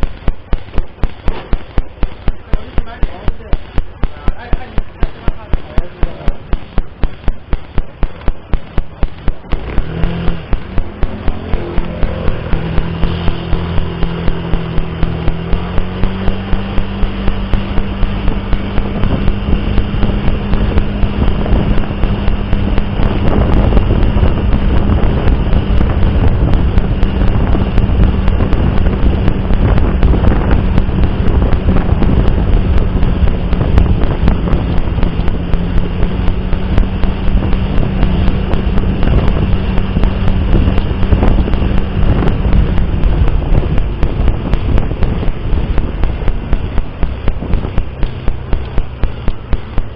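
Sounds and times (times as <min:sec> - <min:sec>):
car driving: 0:00.0 - 0:49.9
regular electrical ticking: 0:00.0 - 0:49.9
steady low hum: 0:00.0 - 0:49.9.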